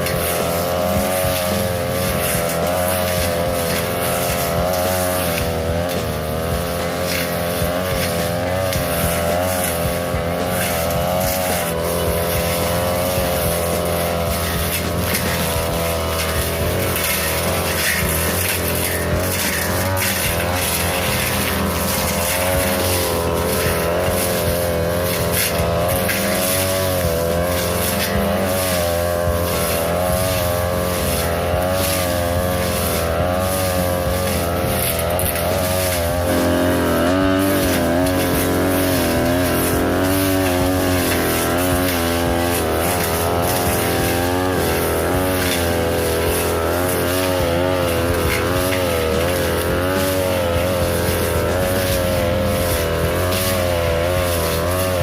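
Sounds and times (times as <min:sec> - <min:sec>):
blade cutting grass and brush: 0:00.0 - 0:55.0
brush cutter engine revving: 0:00.0 - 0:55.0.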